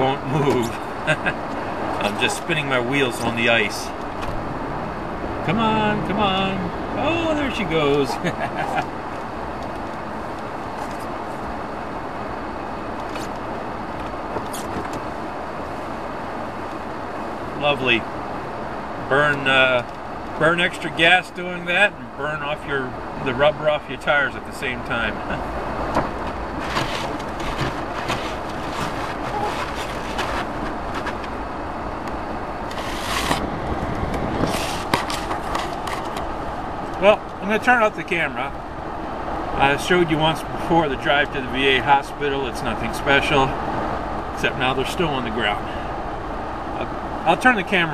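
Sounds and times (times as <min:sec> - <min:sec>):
car engine and tyre noise: 0:00.0 - 0:47.9.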